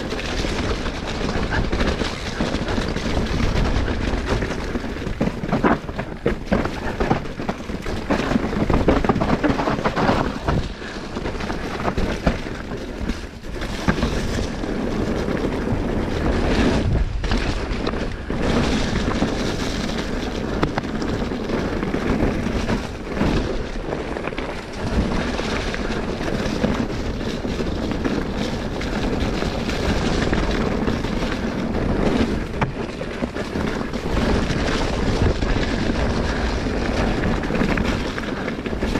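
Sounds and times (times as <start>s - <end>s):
bike knocks and rattles: 0.0s - 38.9s
bike tyres on gravel trail: 0.0s - 38.9s
wind on microphone: 0.0s - 38.9s.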